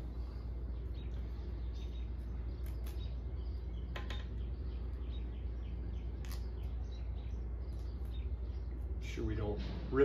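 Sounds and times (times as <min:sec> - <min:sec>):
faint bird chirps: 0:00.0 - 0:09.7
low background hum: 0:00.0 - 0:10.0.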